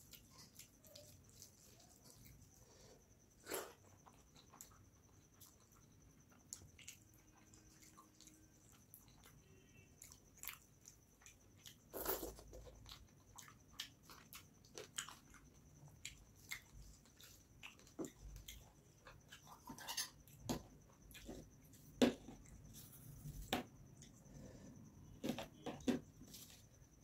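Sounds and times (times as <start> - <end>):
chewing: 0.0 - 24.6.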